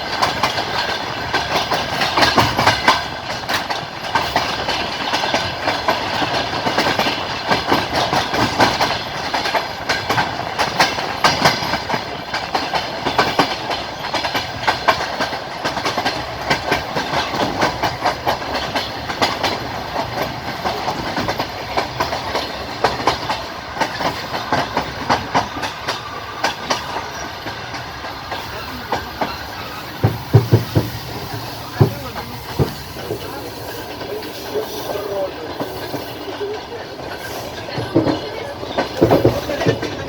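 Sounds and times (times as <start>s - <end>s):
train running rumble: 0.0s - 40.0s
train wheels clattering over rail joints: 0.0s - 40.0s.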